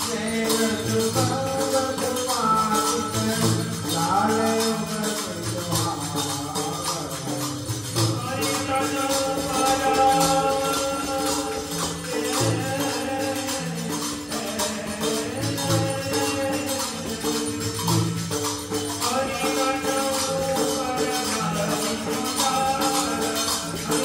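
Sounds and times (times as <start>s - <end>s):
jingling hand percussion: 0.0s - 24.0s
tabla strokes: 0.0s - 24.0s.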